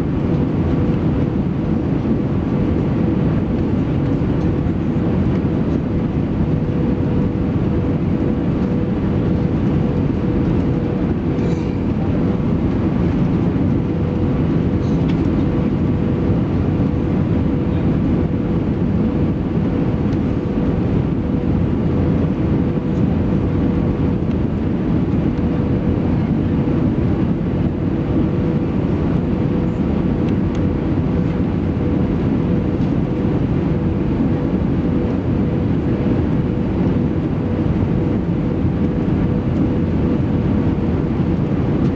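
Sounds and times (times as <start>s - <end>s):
airplane cabin engine rush: 0.0s - 41.9s
steady hum: 0.0s - 41.9s.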